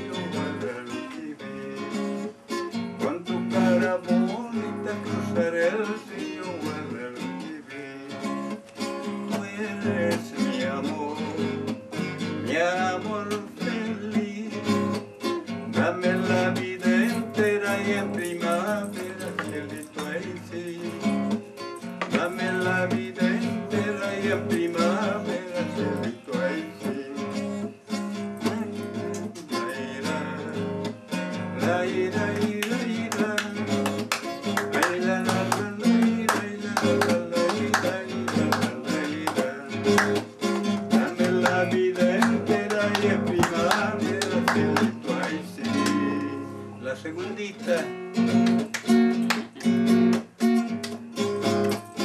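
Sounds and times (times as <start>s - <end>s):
man singing folk song: 0.0s - 52.0s
nylon string guitar strumming: 0.0s - 52.0s.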